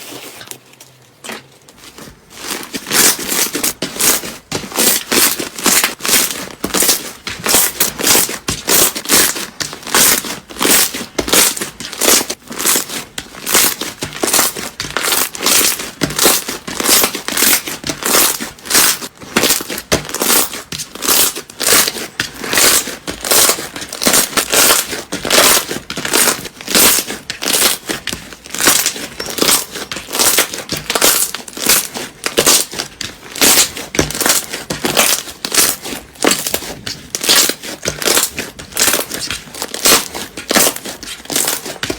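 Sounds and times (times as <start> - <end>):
crunchy slime crackling: 0.0 - 41.9.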